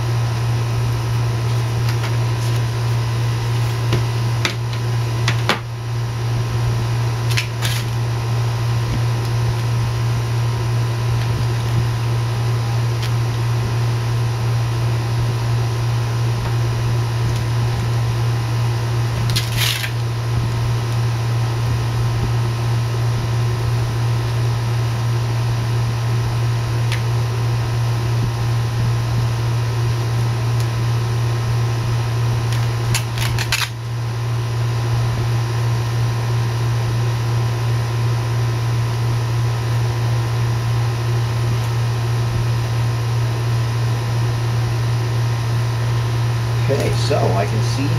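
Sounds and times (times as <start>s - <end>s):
steady low machine hum: 0.0s - 47.9s.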